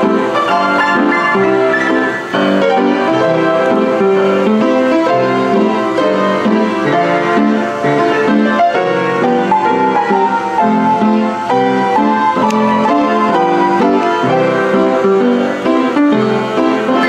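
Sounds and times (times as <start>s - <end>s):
player piano playing a tune: 0.0s - 17.0s.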